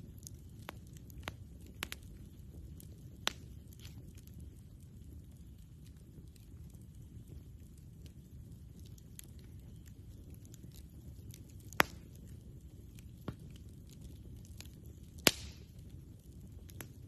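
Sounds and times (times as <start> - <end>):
campfire low rumble: 0.0 - 17.0
wood crackling and popping: 0.0 - 17.0.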